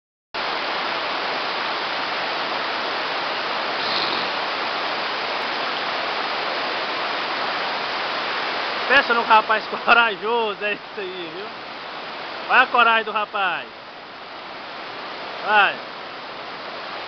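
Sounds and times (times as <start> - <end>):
water rushing over rock: 0.4 - 17.0.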